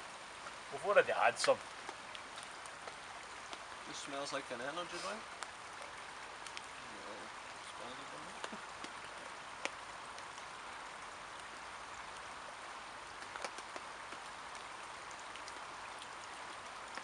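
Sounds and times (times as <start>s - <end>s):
rain pattering on a tarp: 0.0s - 17.0s.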